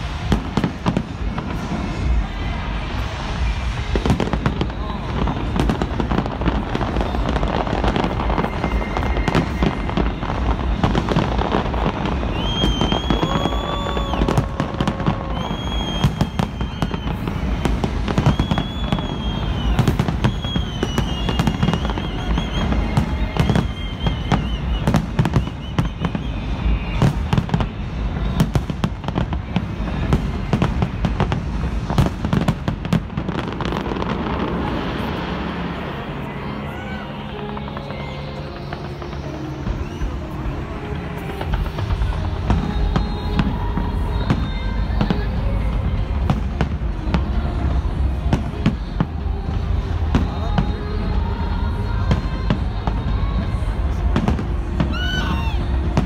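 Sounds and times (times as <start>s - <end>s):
fireworks bangs: 0.0s - 56.0s
fireworks crackle: 0.0s - 56.0s.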